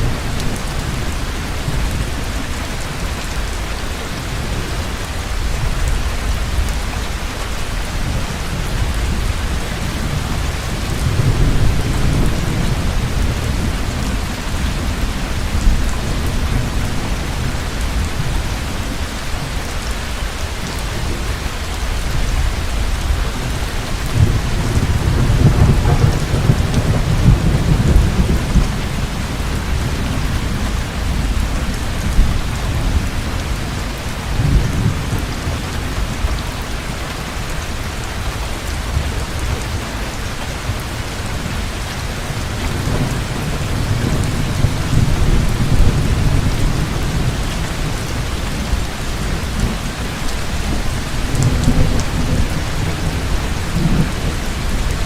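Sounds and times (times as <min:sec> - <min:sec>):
heavy rain: 0:00.0 - 0:55.0
thunder rumbling: 0:00.0 - 0:55.0.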